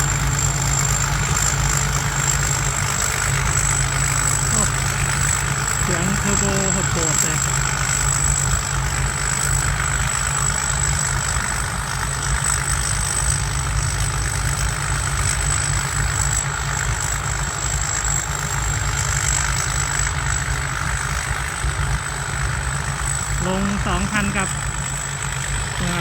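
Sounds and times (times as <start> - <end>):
diesel engine deep rumble: 0.0 - 26.0.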